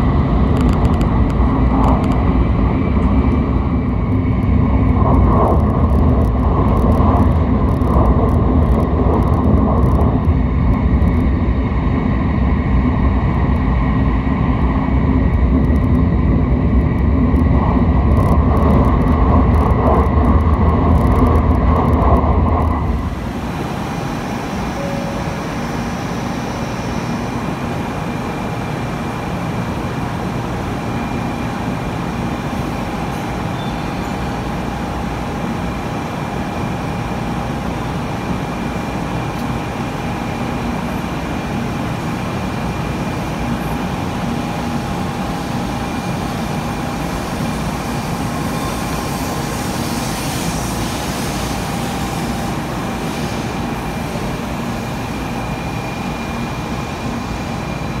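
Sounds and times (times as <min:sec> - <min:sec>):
train equipment hum and hiss: 0:00.0 - 0:58.0.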